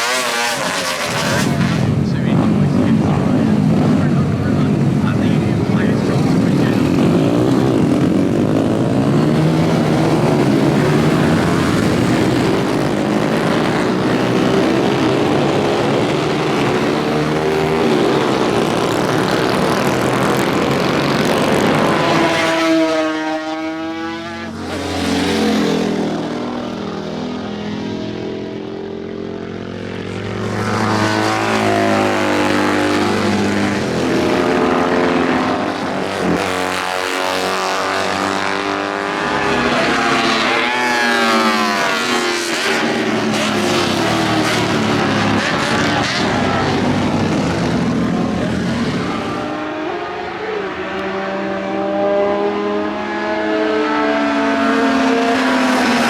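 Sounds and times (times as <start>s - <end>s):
motorcycles racing past: 0.0s - 56.0s.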